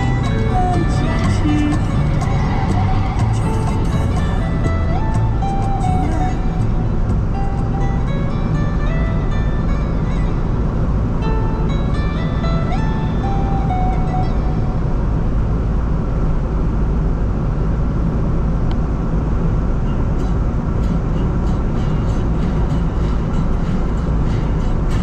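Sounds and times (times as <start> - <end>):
vehicle rumble: 0.0 - 25.0.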